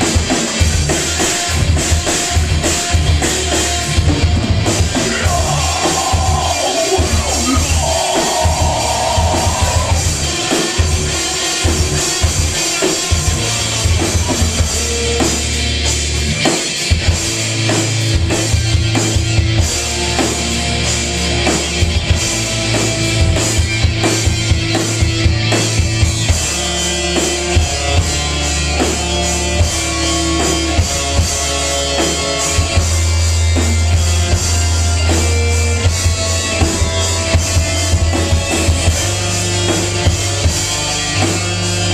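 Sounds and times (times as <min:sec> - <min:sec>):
live rock band playing: 0:00.0 - 0:41.9
low bass notes: 0:00.0 - 0:41.9.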